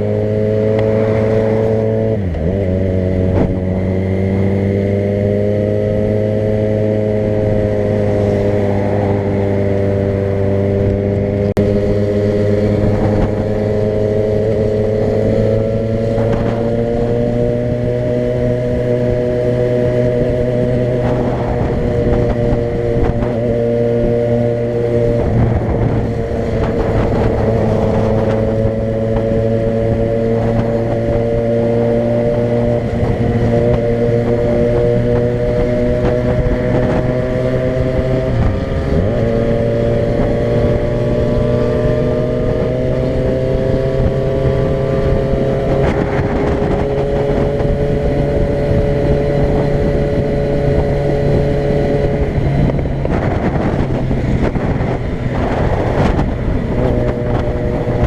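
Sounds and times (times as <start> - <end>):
road noise: 0.0 - 58.0
vehicle engine running: 0.0 - 58.0.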